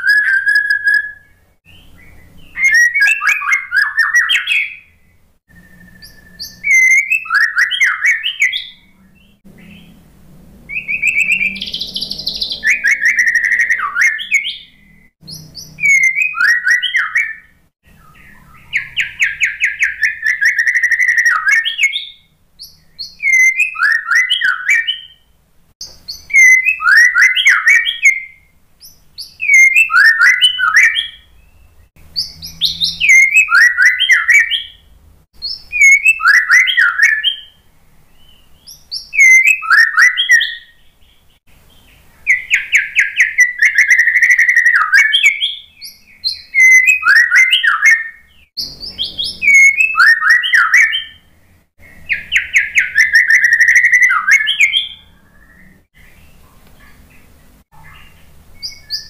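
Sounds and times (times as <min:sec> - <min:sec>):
bird whistling song: 0:00.0 - 0:10.0, 0:10.7 - 0:59.0
bird trill: 0:00.0 - 0:59.0.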